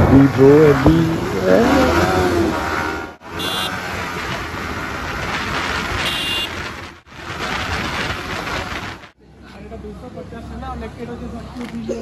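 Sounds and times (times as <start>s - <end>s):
motorcycle riding noise: 0.0s - 11.9s.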